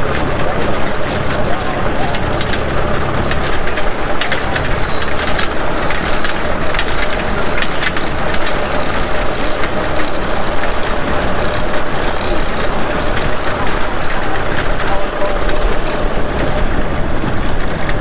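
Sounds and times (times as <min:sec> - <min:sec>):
railcar engine running: 0:00.0 - 0:18.0
wheels clicking on track: 0:00.0 - 0:18.0.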